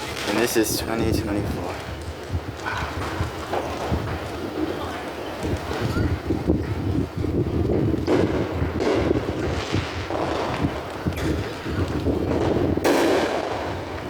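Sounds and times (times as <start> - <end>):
fireworks bursts: 0.0 - 14.0
wind buffeting microphone: 0.0 - 14.0.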